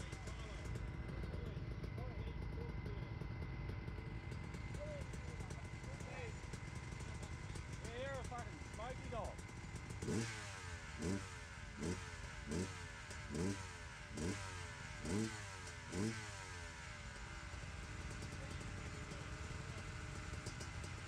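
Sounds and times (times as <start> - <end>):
motorcycle engine revving and idling: 0.0 - 21.0.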